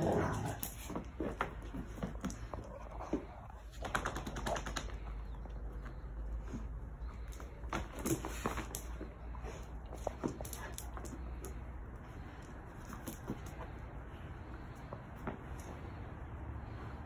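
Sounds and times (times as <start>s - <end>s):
claws clicking on tile floor: 0.0s - 16.0s.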